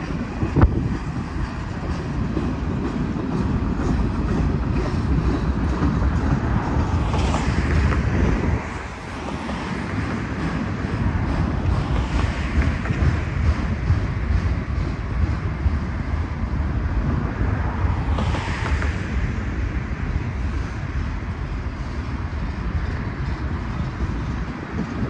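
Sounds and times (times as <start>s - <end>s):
freight train cars rolling past: 0.0s - 25.0s.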